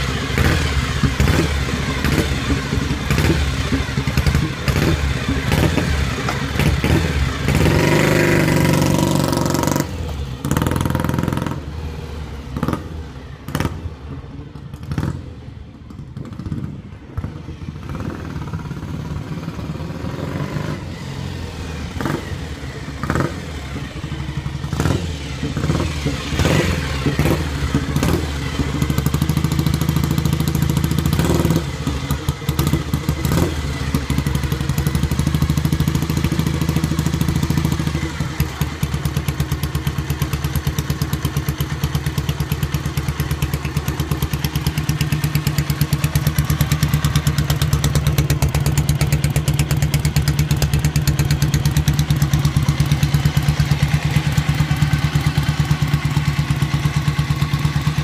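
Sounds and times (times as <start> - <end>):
motorcycle engine idling: 0.0 - 11.8, 21.0 - 58.0.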